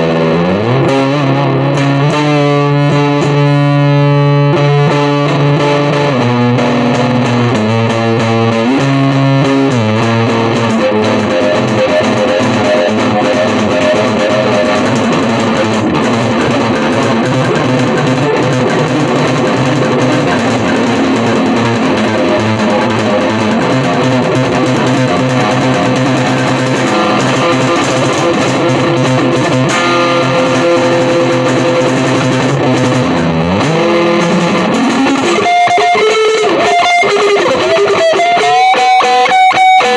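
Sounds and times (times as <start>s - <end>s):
electric guitar chords: 0.0s - 39.9s.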